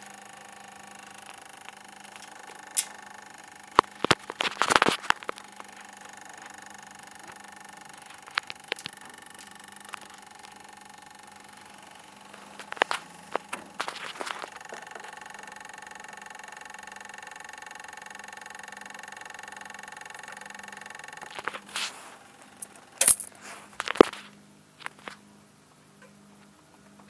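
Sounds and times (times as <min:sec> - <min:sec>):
steady electrical whine: 0:00.0 - 0:27.0.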